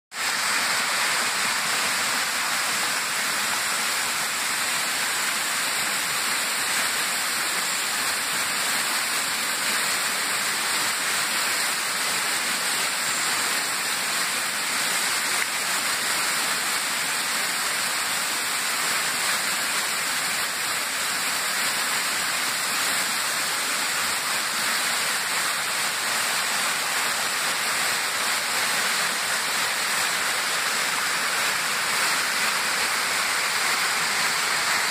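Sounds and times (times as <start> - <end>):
stream rushing over boulders: 0.1 - 34.9.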